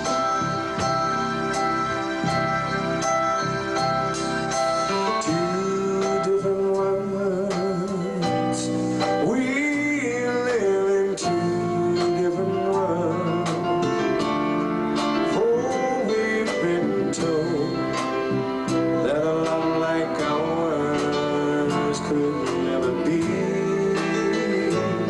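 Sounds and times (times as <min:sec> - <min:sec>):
instrumental accompaniment: 0:00.0 - 0:25.0
man singing a slow ballad: 0:04.9 - 0:25.0.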